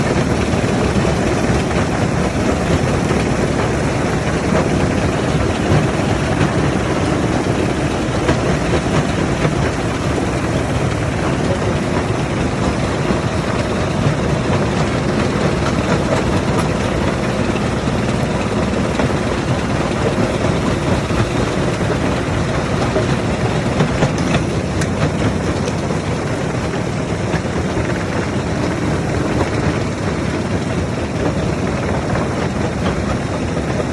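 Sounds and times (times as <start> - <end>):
heavy machinery running: 0.0 - 33.9.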